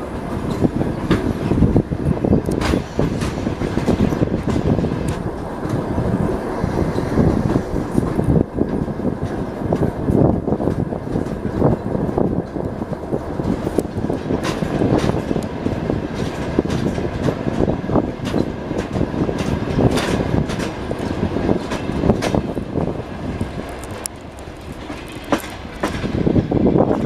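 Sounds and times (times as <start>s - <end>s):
train carriage rumbling: 0.0s - 27.0s
wheels clattering over rail joints: 0.0s - 27.0s.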